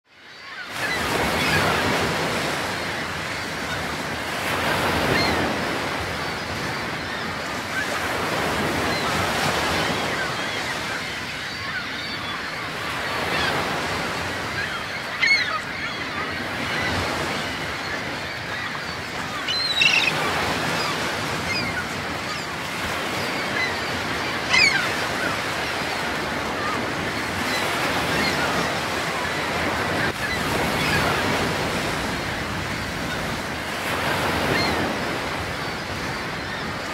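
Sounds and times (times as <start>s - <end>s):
sea waves on shore: 0.1s - 36.9s.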